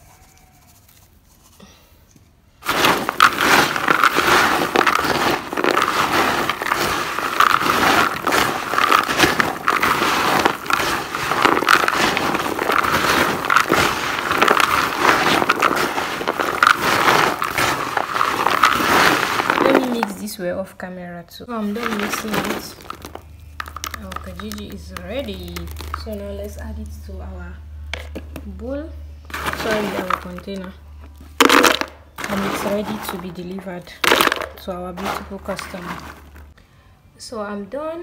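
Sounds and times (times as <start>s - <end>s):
hands crunching dry pieces in bowl: 2.6s - 20.4s, 21.6s - 27.1s, 29.3s - 36.6s.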